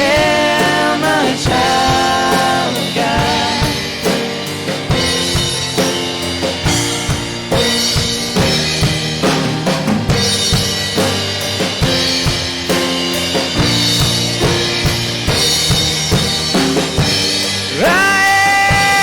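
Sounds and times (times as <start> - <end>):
drum kit beat: 0.0 - 19.0
sustained bass and keyboard chords: 0.0 - 19.0.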